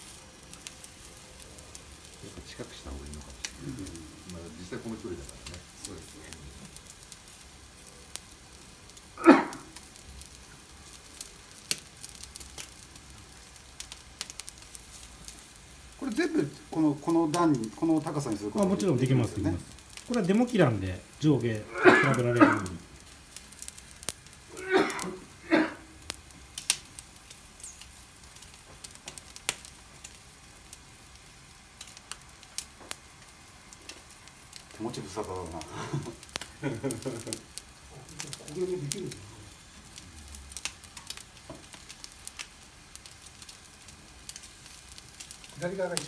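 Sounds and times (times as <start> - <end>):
fire popping and crackling: 0.0 - 46.0
skewers sizzling on a grill: 0.0 - 46.0.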